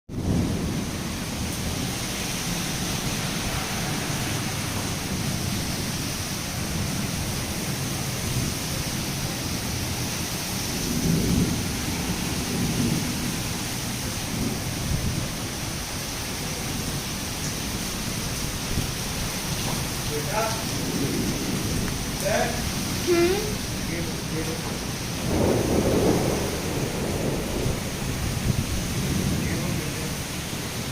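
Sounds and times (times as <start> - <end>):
heavy rain falling: 0.1 - 30.9.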